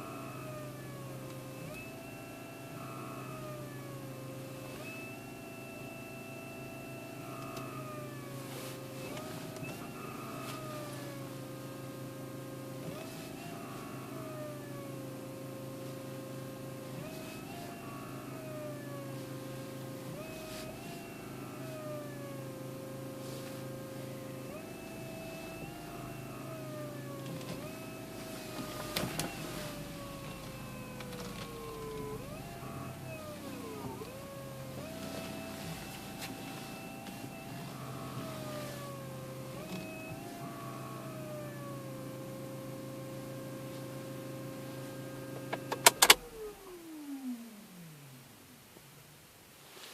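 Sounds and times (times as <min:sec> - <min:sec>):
power steering pump whining: 0:00.0 - 0:48.9.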